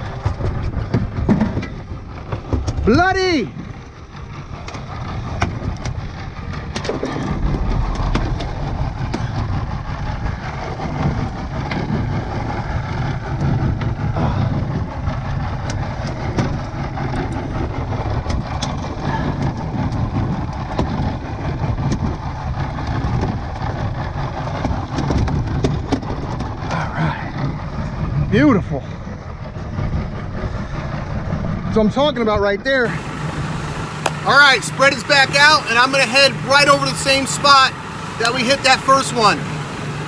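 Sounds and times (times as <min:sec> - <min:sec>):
outboard motor running: 0:00.0 - 0:40.0
wind and water noise: 0:00.0 - 0:40.0.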